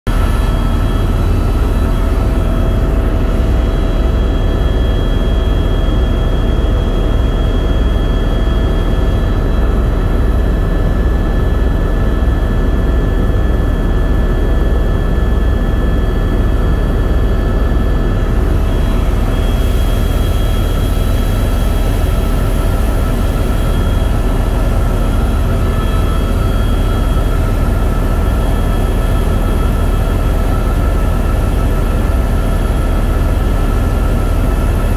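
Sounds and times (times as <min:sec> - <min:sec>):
constant whine: 0:00.1 - 0:34.9
helicopter engine and rotor rumble: 0:00.1 - 0:34.9.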